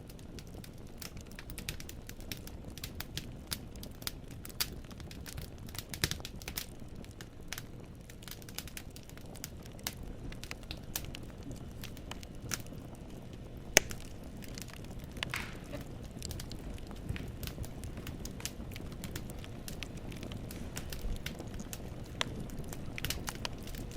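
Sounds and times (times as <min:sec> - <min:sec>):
wood fire burning: 0:00.0 - 0:23.9.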